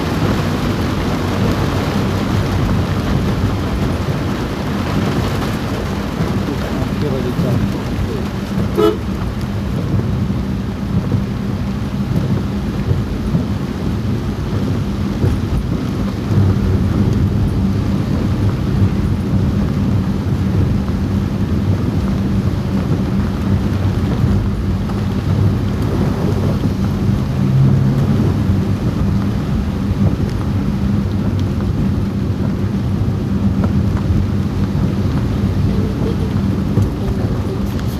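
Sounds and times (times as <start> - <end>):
engine and road rumble: 0.0 - 37.9
heavy rain on car roof: 0.0 - 37.9.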